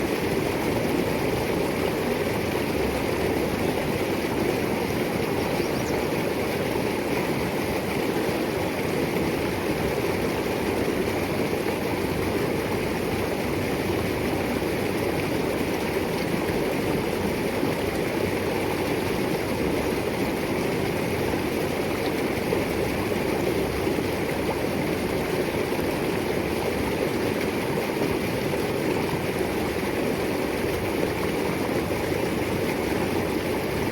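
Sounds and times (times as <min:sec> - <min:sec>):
stream gurgling over rocks: 0:00.0 - 0:33.9.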